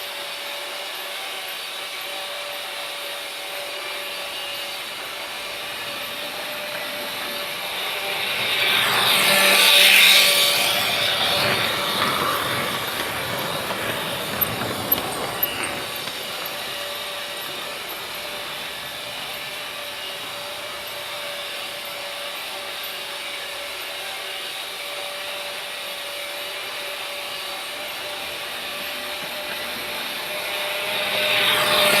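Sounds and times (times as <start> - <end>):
freight train rolling: 0.2 - 32.0.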